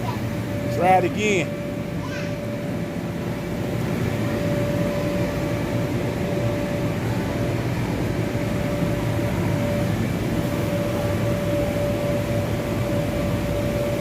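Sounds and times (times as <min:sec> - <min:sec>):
electric blower fans droning: 0:00.0 - 0:14.0.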